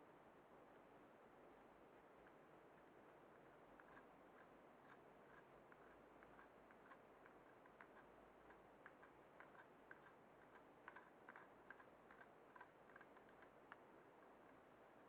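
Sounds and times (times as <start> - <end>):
faint light clicks: 2.2 - 15.0.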